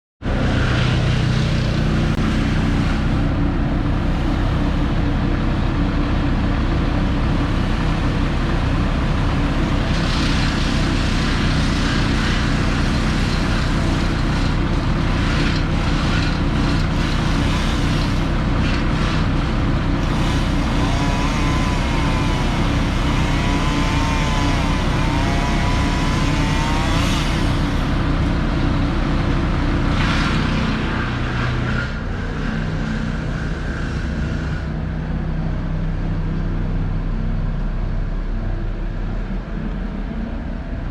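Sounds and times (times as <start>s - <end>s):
large engine running steadily: 0.2s - 40.9s.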